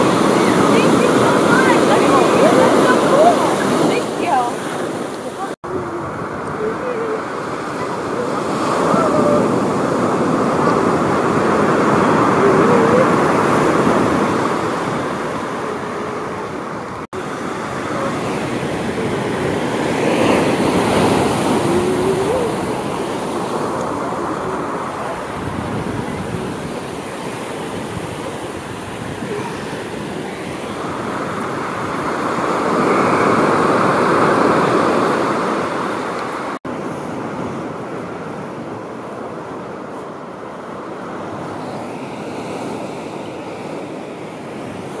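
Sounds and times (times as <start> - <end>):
surf breaking on beach: 0.0 - 45.0.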